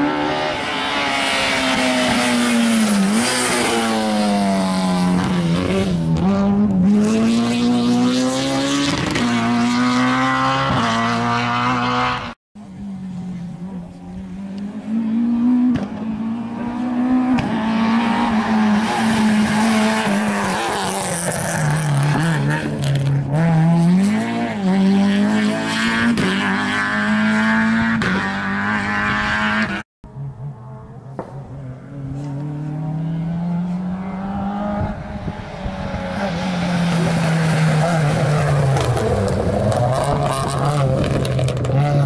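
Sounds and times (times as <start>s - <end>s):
rally car approaching: 0.0s - 42.0s
rally car engine revving: 0.0s - 42.0s.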